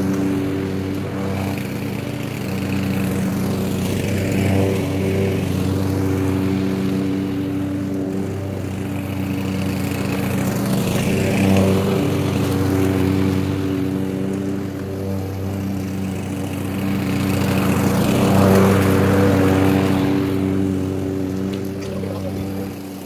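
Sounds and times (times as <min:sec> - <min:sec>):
lawn mower cutting grass: 0:00.0 - 0:23.0.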